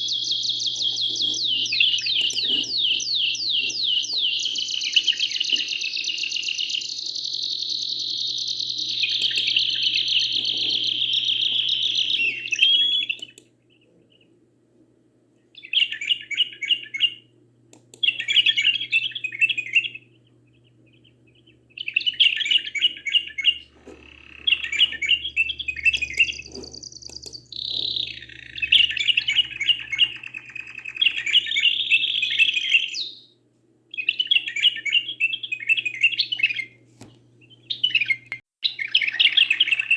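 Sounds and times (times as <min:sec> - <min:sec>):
birds trilling: 0:00.0 - 0:14.4, 0:18.0 - 0:33.3, 0:33.9 - 0:36.8, 0:37.4 - 0:39.9.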